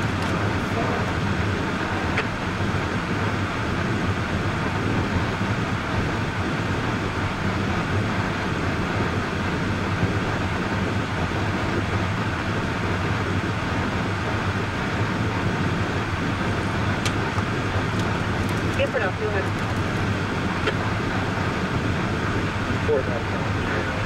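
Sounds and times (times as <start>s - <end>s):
car driving rumble and hiss: 0.0s - 24.0s
low hum: 0.0s - 24.0s.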